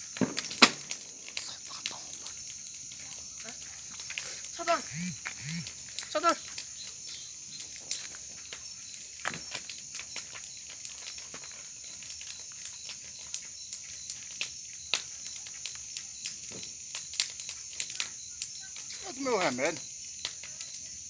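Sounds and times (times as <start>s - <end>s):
bonfire crackling and popping: 0.0s - 21.0s
crickets chirring: 0.0s - 21.0s.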